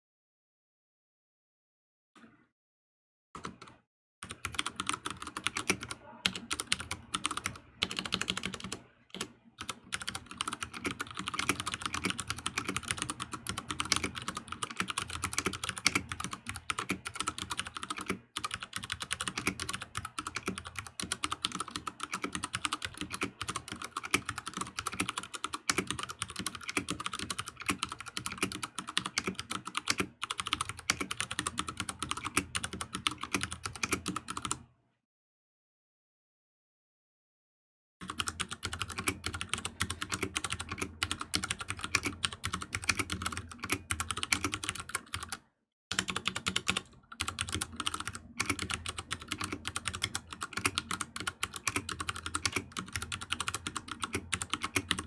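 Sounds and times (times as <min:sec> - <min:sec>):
fast mechanical keyboard typing: 0:04.2 - 0:34.6, 0:38.0 - 0:55.0.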